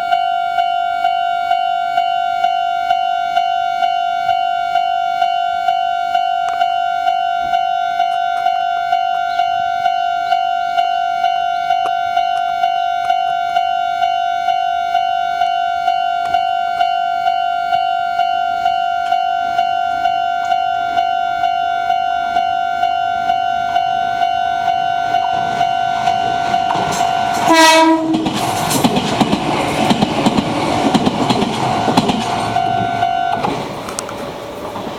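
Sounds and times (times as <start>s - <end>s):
train horn blast: 0.0s - 28.4s, 32.5s - 33.4s
level crossing warning bell: 0.0s - 28.6s, 31.0s - 34.6s
train wheels rumbling on rail: 6.4s - 34.9s.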